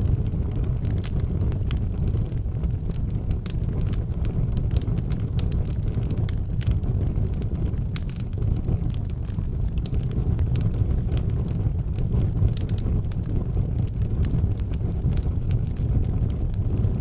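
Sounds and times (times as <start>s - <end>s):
low roar of flames: 0.0s - 17.0s
wood fire crackles and pops: 0.0s - 17.0s.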